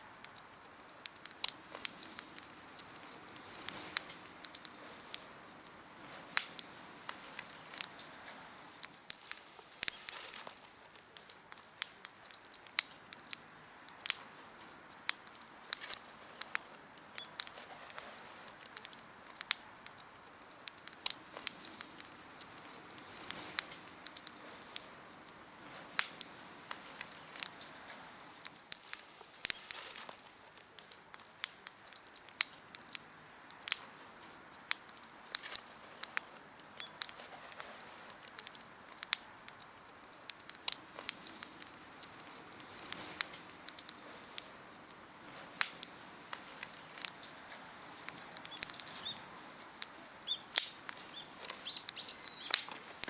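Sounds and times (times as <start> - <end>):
campfire crackling: 0.0 - 53.0
sharp pops of fire: 0.1 - 53.0.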